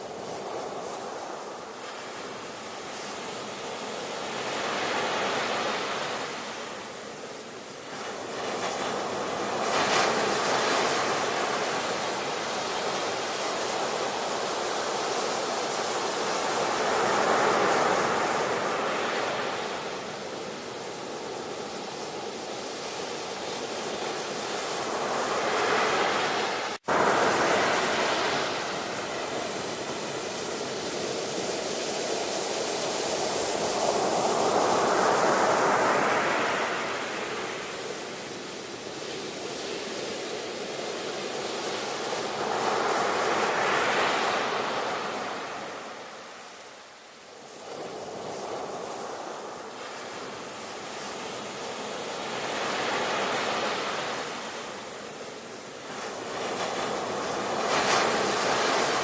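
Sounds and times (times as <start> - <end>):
ocean waves breaking: 7.8 - 46.6, 47.5 - 59.0.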